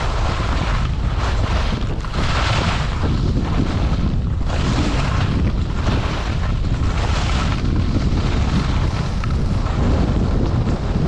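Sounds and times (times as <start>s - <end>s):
skis scraping over snow: 0.0s - 11.0s
wind buffeting microphone: 0.0s - 11.0s.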